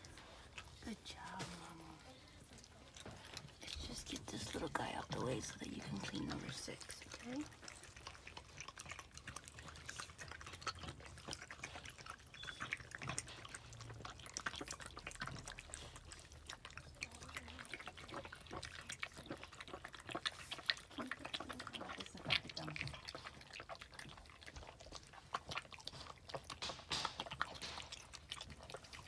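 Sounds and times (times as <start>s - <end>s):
dog licking puppy: 0.0s - 29.0s.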